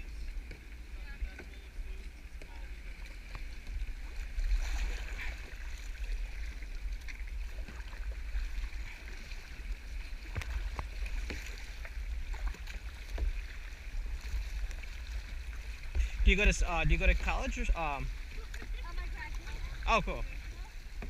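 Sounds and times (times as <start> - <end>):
paddle splashing water: 0.0 - 21.0.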